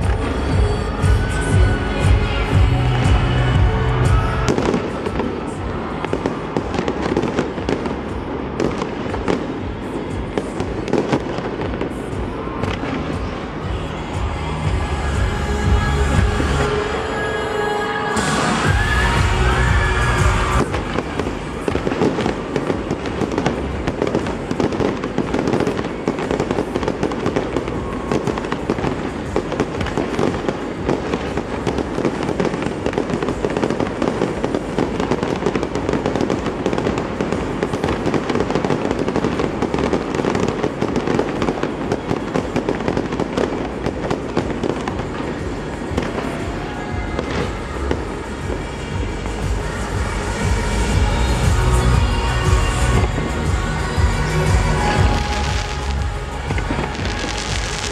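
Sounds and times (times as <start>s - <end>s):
fireworks popping and crackling: 0.0s - 16.9s, 18.2s - 57.9s.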